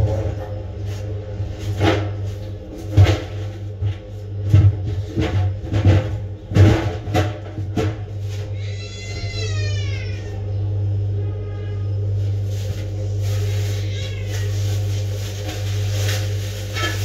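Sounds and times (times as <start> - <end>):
steady low drone: 0.0 - 17.0.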